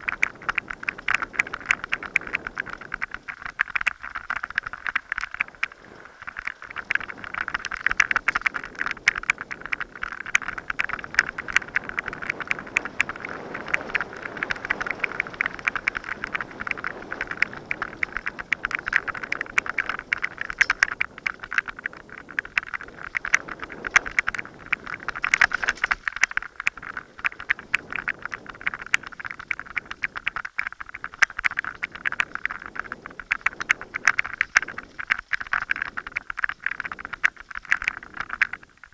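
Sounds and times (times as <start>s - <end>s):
bike rattling over bumps: 0.0s - 38.9s.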